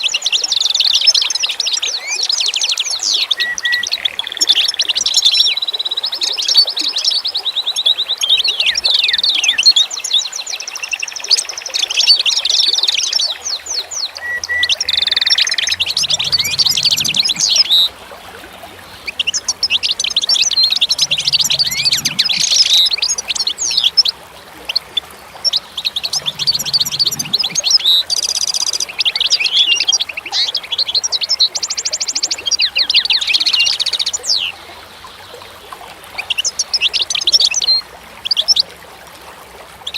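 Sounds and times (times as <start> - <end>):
songbirds twittering and trilling: 0.0 - 38.8.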